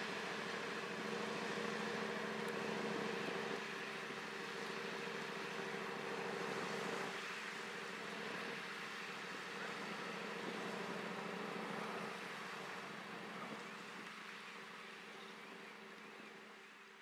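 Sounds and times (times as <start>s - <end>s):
boat engines droning: 0.0s - 17.0s.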